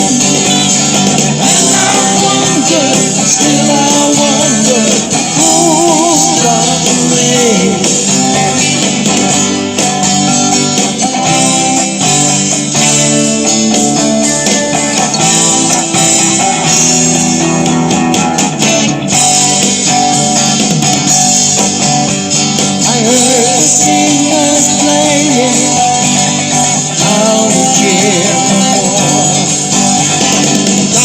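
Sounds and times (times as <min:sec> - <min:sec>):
rock band with guitars: 0:00.0 - 0:31.0.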